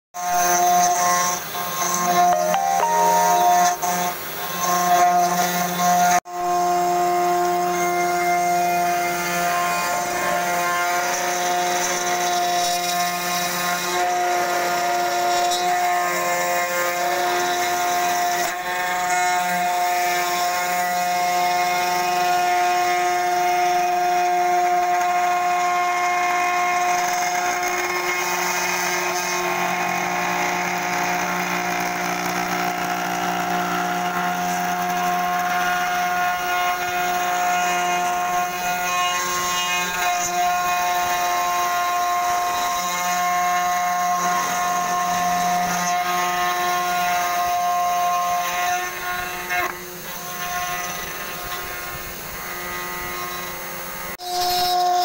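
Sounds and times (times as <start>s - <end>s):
cnc router whining and grinding: 0.3s - 55.0s.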